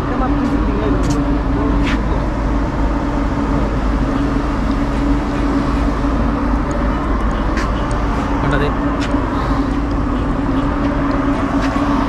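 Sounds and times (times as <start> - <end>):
steady hum: 0.0 - 12.0
wind rumbling on microphone: 0.0 - 12.0.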